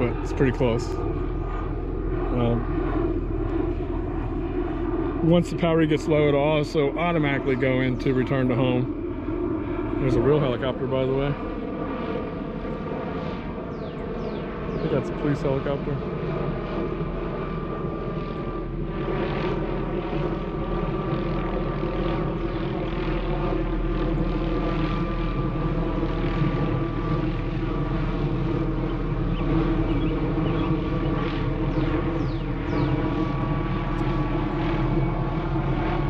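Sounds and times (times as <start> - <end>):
helicopter flying overhead: 0.0 - 36.0.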